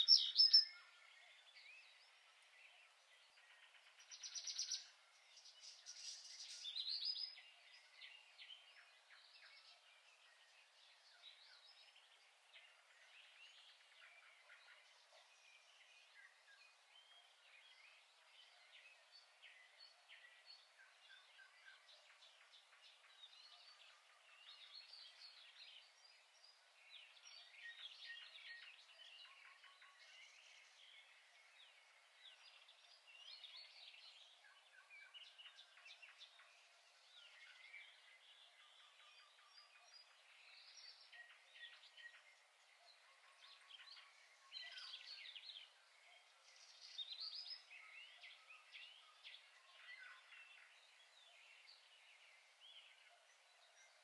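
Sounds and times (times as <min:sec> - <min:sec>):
faint birds chirping: 0:00.0 - 0:54.0.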